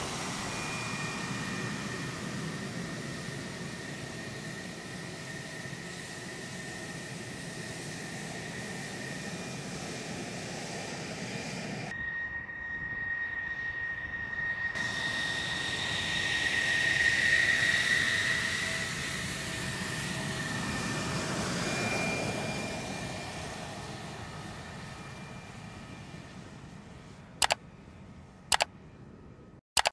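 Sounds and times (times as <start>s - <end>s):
jet engine whine and rumble: 0.0s - 29.9s.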